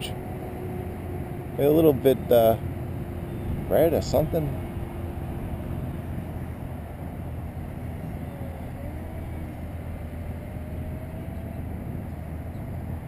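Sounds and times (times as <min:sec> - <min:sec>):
distant model plane motor whine: 0:00.0 - 0:13.0
steady low rumble: 0:00.0 - 0:13.0.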